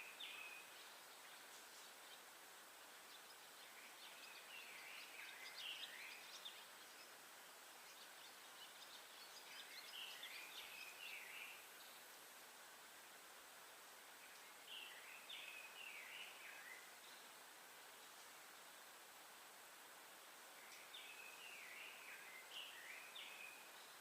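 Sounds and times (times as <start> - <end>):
faint songbird chirps: 0.0 - 24.0
quiet forest air hiss: 0.0 - 24.0.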